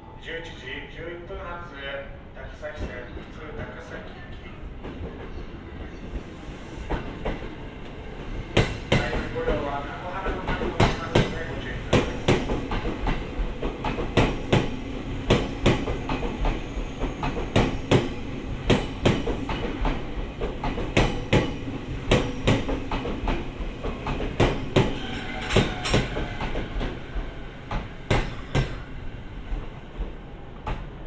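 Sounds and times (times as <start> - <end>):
low train running rumble: 0.0 - 31.0.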